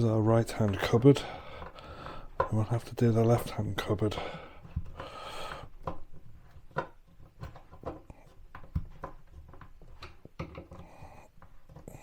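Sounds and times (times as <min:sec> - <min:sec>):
cabinet parts knocking and clicking: 0:00.5 - 0:12.0.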